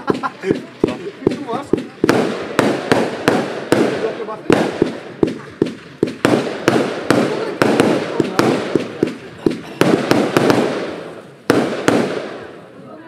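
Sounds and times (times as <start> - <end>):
fireworks bangs echoing: 0.0 - 12.8.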